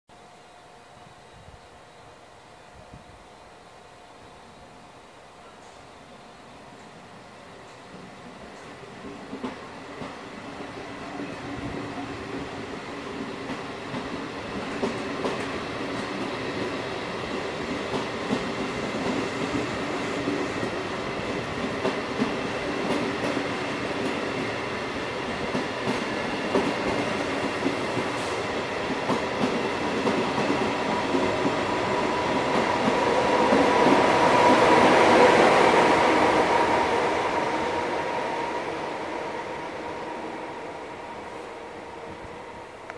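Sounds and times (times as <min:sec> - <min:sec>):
train pulling out: 0:00.2 - 0:42.9.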